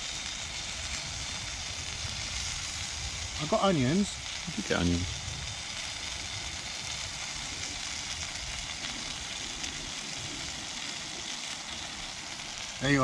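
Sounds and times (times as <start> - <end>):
meat and onions sizzling on griddle: 0.0 - 13.0.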